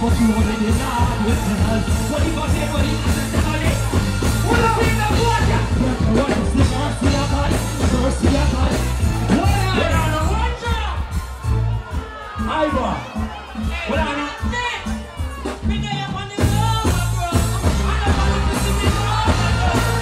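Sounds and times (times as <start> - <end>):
heavy pulsing bass line: 0.0 - 20.0.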